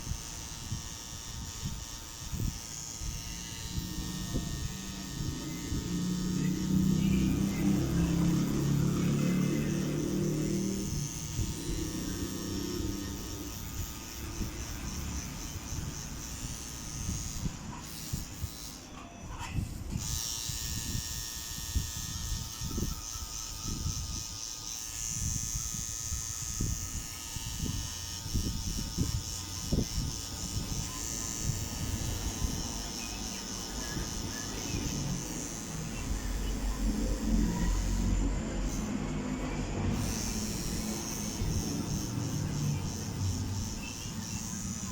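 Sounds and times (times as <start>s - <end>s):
tattoo machine buzzing: 0.0s - 44.9s.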